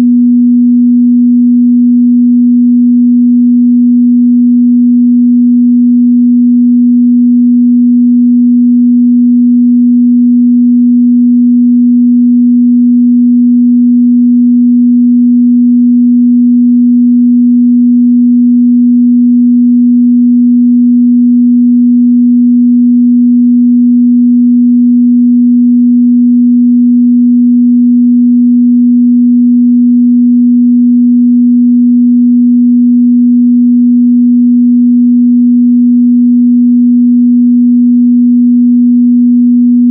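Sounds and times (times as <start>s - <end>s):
sine test tone: 0.0s - 39.9s.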